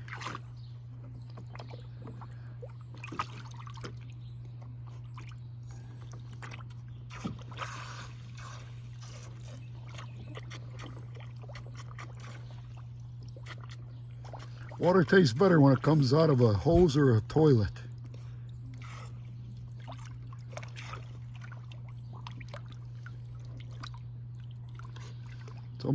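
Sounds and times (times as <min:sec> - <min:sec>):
steady low hum: 0:00.0 - 0:25.9
water splashing and sloshing: 0:00.0 - 0:25.9.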